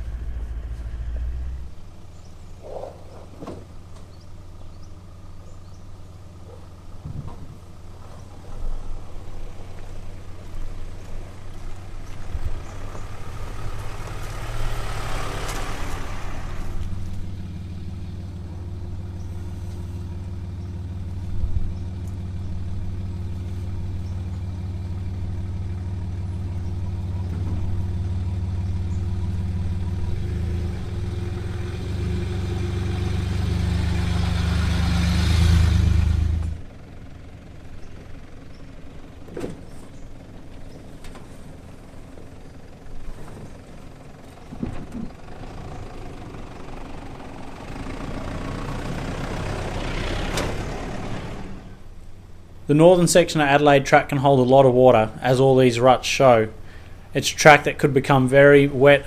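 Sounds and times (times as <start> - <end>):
diesel engine running at low speed: 0.0 - 59.0.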